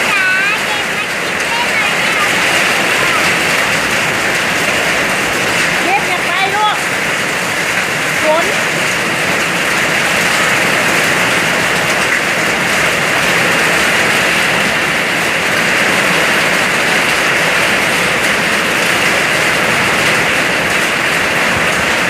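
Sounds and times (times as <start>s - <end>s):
heavy rain and hail: 0.0s - 22.0s.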